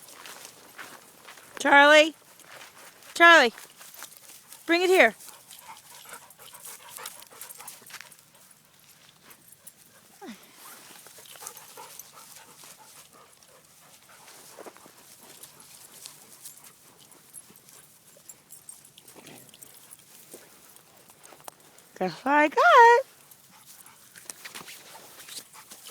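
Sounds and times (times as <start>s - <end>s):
dogs panting: 2.2s - 25.9s
small clicks and rustles: 3.6s - 22.0s, 23.1s - 25.9s.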